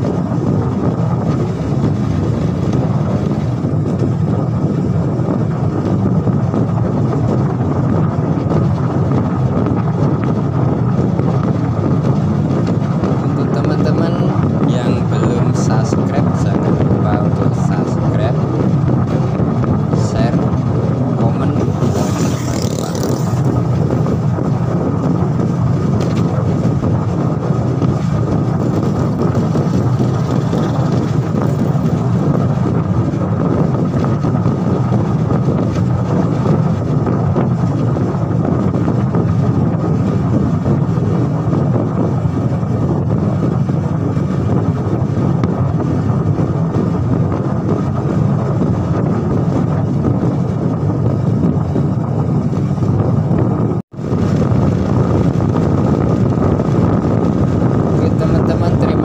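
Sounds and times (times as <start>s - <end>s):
vehicle engine and road noise: 0.0s - 59.0s
wind rushing on microphone: 0.0s - 59.0s.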